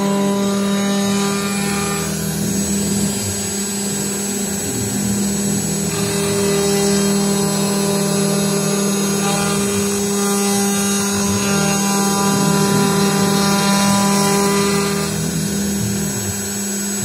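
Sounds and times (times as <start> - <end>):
milling cutter cutting metal: 0.0 - 17.0
router spindle running: 0.0 - 17.0.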